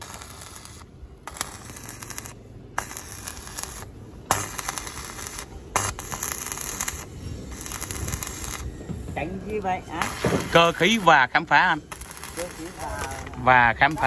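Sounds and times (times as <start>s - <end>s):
electric arc welding crackling: 0.0s - 14.0s.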